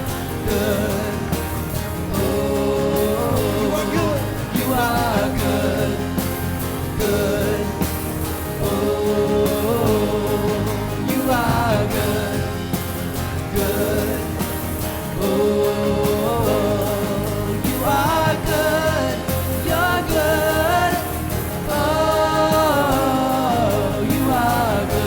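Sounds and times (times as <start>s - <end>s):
live worship band playing: 0.0s - 25.0s
people singing: 0.0s - 25.0s.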